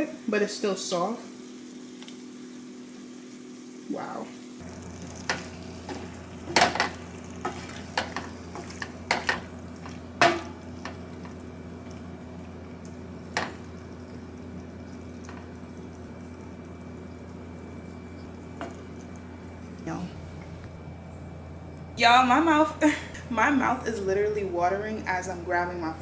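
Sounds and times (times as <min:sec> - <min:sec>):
low hum: 0:04.6 - 0:26.0.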